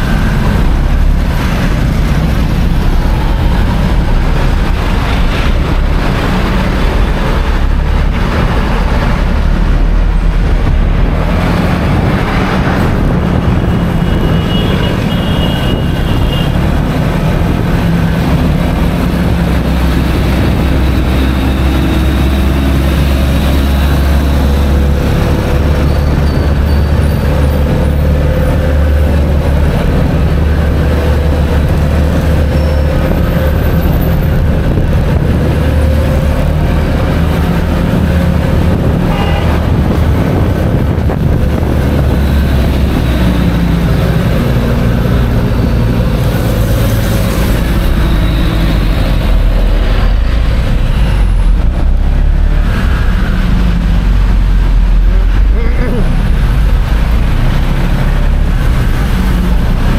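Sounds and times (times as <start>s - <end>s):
road noise: 0.0s - 59.9s
vehicle engine rumble: 0.0s - 59.9s.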